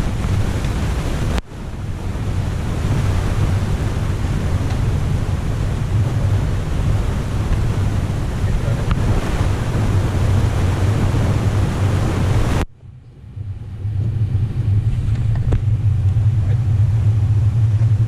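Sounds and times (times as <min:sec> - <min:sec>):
engine and air conditioning hum: 0:00.0 - 0:18.0.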